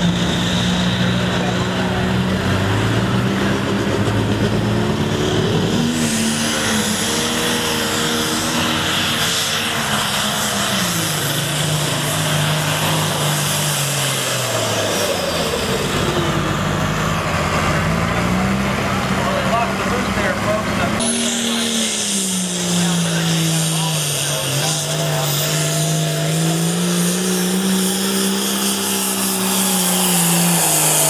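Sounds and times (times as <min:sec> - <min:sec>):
diesel tractor engine under load: 0:00.0 - 0:31.0
high turbo whine: 0:00.0 - 0:31.0.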